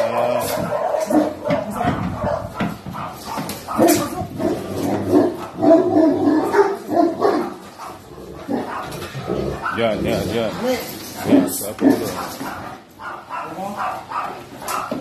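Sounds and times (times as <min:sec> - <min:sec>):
dog barking and whining: 0:00.0 - 0:15.0.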